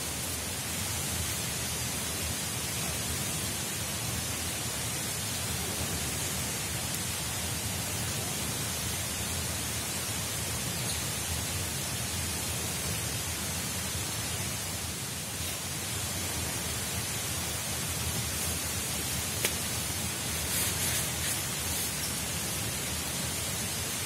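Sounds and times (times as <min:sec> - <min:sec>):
falling water hiss: 0:00.0 - 0:24.0.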